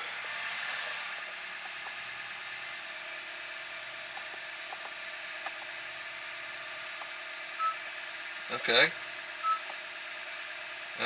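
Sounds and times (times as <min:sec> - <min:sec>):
car engine idling whir: 0:00.0 - 0:11.0.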